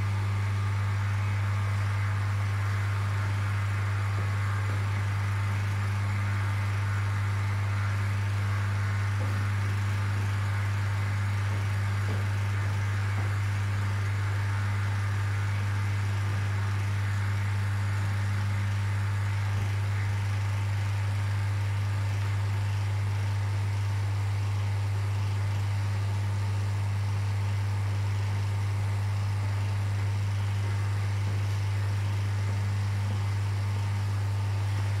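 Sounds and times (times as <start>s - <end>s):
hiss of circulating water: 0.0s - 35.0s
low electrical hum: 0.0s - 35.0s.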